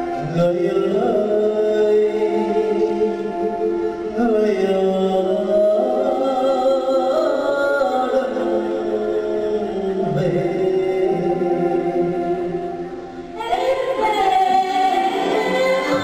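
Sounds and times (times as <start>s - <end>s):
traditional music with singing: 0.0s - 16.0s.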